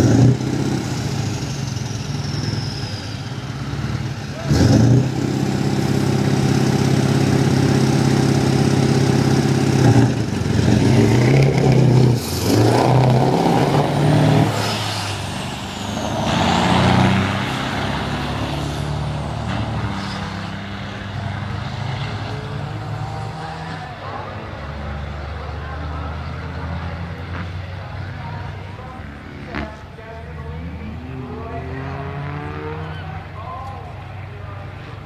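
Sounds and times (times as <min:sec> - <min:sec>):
diesel truck engine accelerating: 0:00.0 - 0:35.0.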